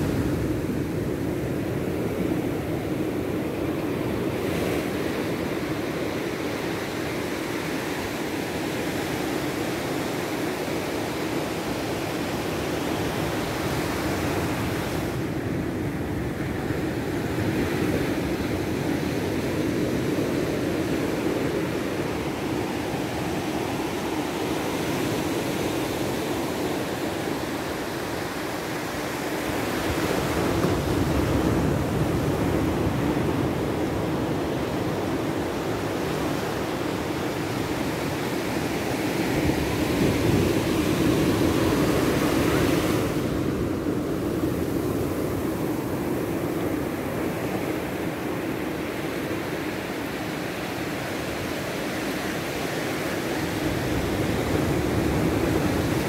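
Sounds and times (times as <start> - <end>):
small waves breaking on beach: 0.0 - 56.0.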